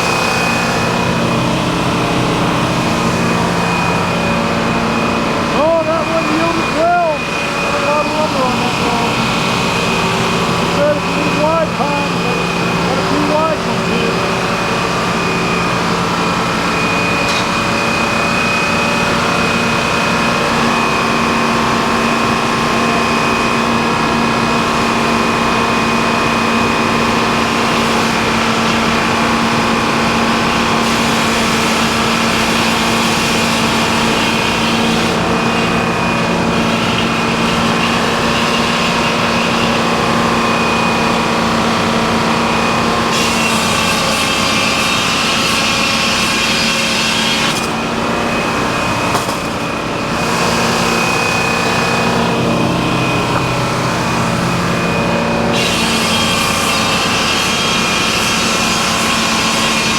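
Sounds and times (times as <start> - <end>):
sawmill machinery engine drone: 0.0 - 59.9.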